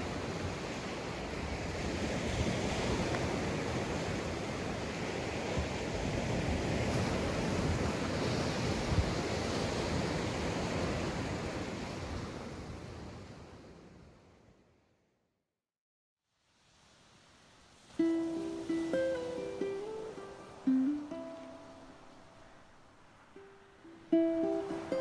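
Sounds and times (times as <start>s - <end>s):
waves washing onto beach: 0.0s - 14.5s, 16.4s - 25.0s.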